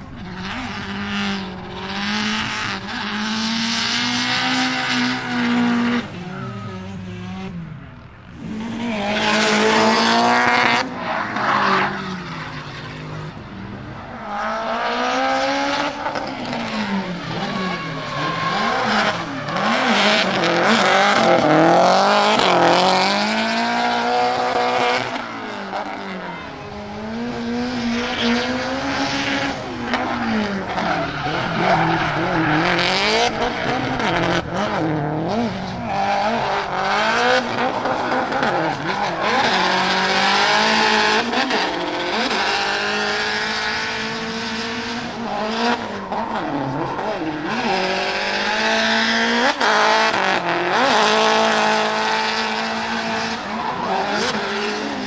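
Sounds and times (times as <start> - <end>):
turbocharged engine revving: 0.2 - 55.0.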